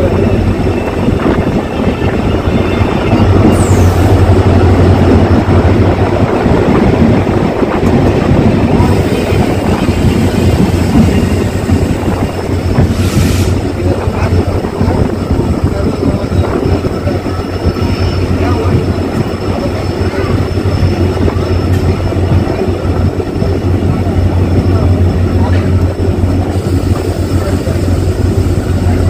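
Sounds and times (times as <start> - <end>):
train wheels rumbling: 0.0 - 29.0.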